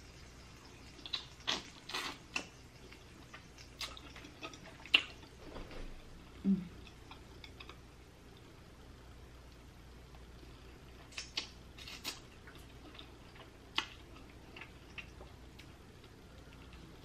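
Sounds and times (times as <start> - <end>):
soft eating sounds: 0.0 - 17.0.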